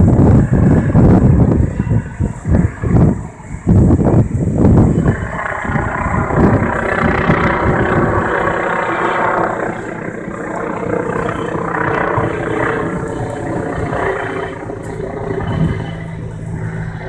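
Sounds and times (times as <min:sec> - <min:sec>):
helicopter flying by: 0:00.0 - 0:17.0.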